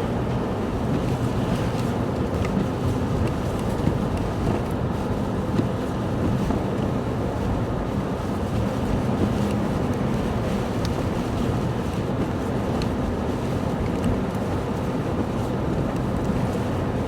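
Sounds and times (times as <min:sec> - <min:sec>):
snow plow engines rumbling: 0:00.0 - 0:17.0.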